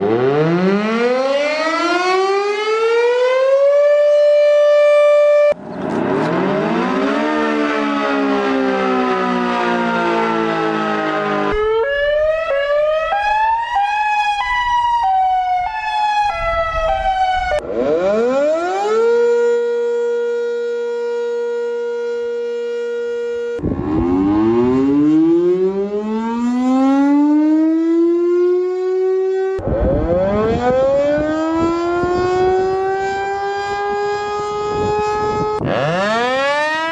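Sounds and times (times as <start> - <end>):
outdoor warning sirens: 0.0 - 36.9.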